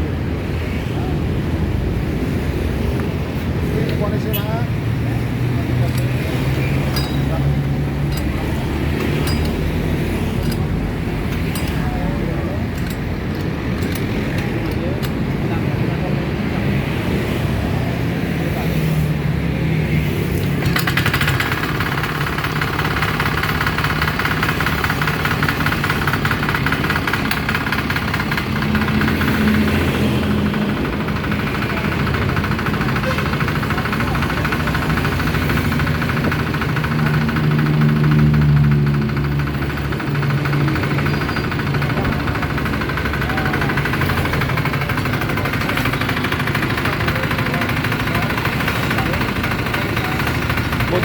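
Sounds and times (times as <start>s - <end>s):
diesel engine knocking: 2.2s - 17.3s, 20.4s - 51.0s.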